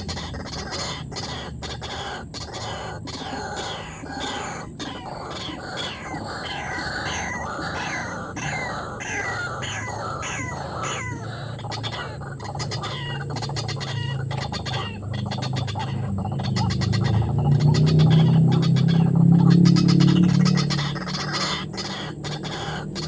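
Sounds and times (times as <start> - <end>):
waterhen calling: 0.0 - 23.0.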